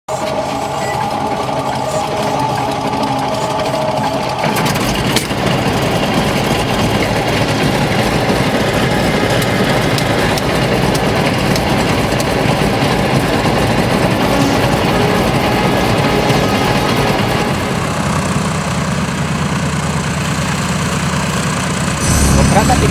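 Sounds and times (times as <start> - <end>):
airplane engine running: 0.1 - 19.7, 21.9 - 22.9.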